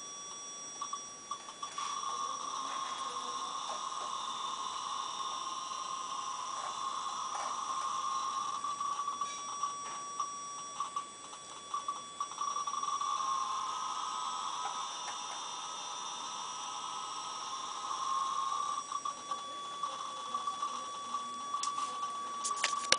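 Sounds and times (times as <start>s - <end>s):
piezo speaker buzzing: 0.0s - 22.9s.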